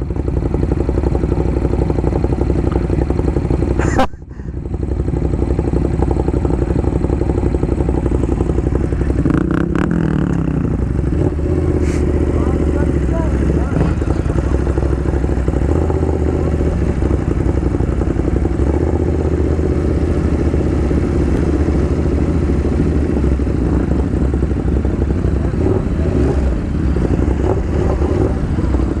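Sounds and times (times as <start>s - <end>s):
motorcycle engine idling: 0.0s - 29.0s
other motorcycle engines: 0.0s - 29.0s.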